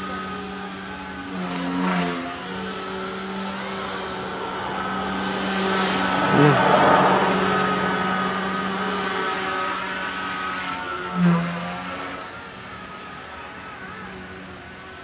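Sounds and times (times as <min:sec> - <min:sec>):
rc helicopter buzzing hum: 0:00.0 - 0:15.0.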